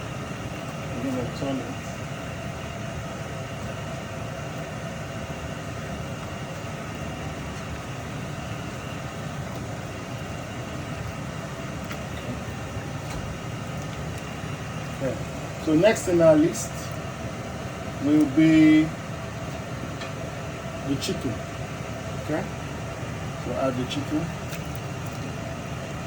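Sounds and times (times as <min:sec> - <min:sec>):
low kitchen background rumble: 0:00.0 - 0:26.0.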